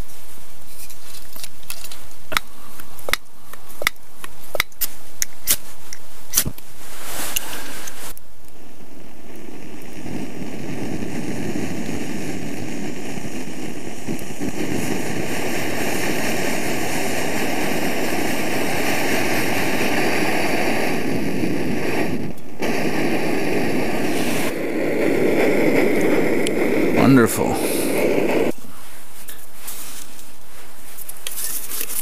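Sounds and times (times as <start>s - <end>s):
stove burner roaring: 0.0s - 32.0s.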